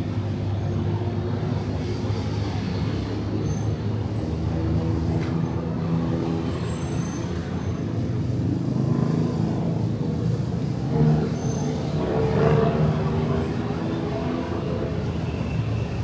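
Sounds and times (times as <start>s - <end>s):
traffic passing: 0.0s - 16.0s.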